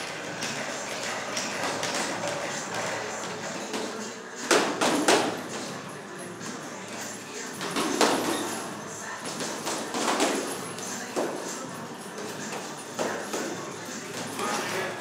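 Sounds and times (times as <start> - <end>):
boxing gloves punching heavy bags: 0.1 - 7.0, 7.6 - 15.0.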